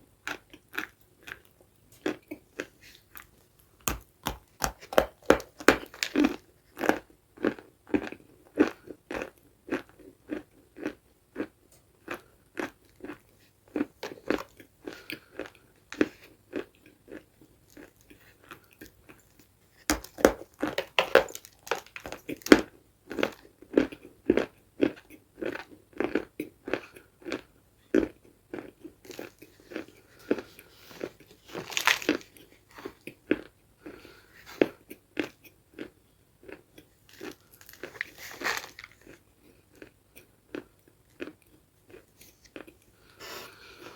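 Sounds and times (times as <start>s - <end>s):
crunchy food being chewed: 0.2s - 43.9s.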